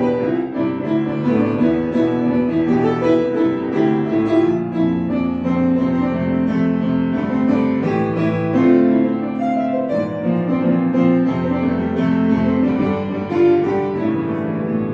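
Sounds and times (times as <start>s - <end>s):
piano music: 0.0s - 14.9s.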